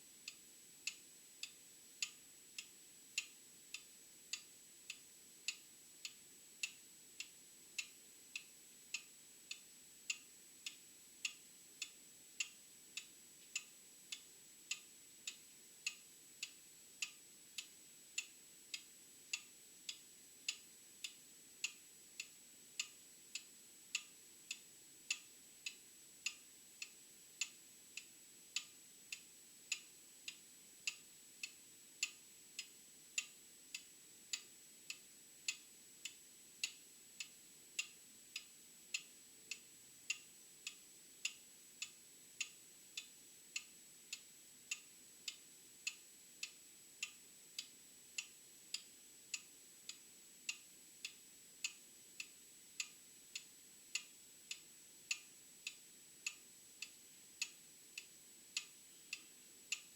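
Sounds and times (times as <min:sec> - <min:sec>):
mechanical clock ticking: 0:00.2 - 0:59.9.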